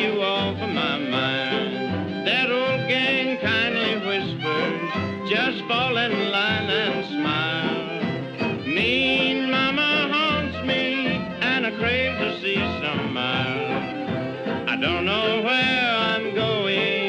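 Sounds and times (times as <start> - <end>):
western swing band playing: 0.0 - 17.0.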